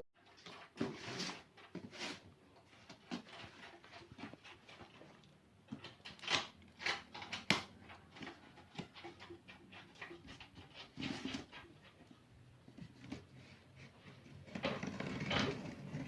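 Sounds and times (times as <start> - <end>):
packaging rustling and scraping: 0.2 - 16.0.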